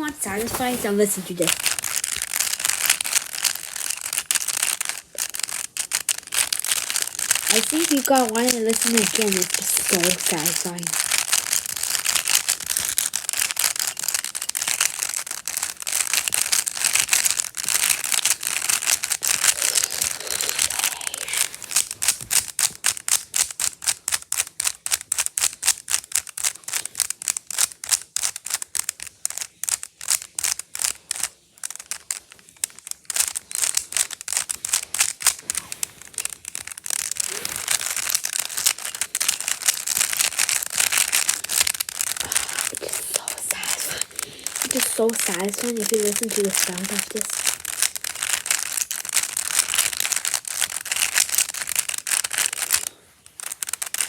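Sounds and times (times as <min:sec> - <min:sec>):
sharp clicks and crackling: 0:01.1 - 0:54.0.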